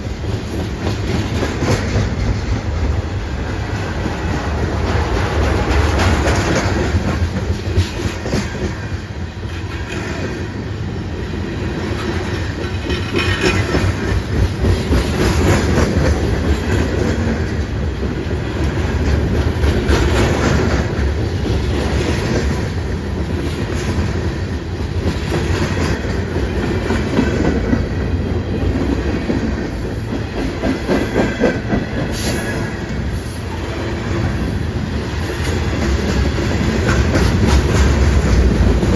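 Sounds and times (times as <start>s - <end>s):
wheels clicking over rail joints: 0.0s - 10.6s, 11.6s - 38.9s
train rumbling past: 0.0s - 38.9s.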